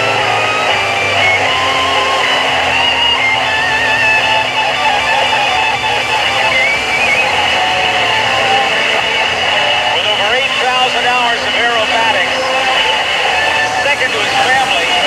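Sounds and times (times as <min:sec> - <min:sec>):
electric guitar music over loudspeakers: 0:00.0 - 0:15.0.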